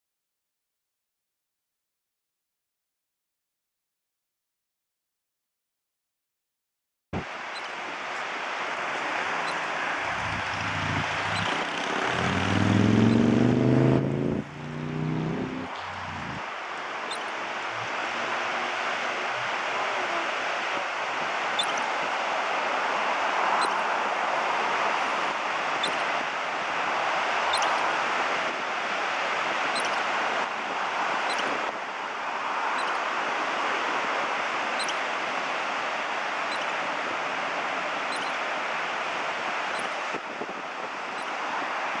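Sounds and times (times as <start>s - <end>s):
ocean surf washing in: 7.2s - 42.0s.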